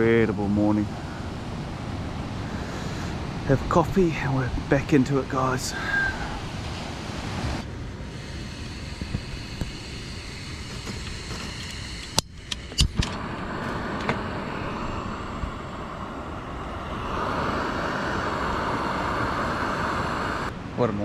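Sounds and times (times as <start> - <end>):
surf washing: 0.0 - 11.0, 13.1 - 21.0
gas burner hissing: 0.0 - 20.6.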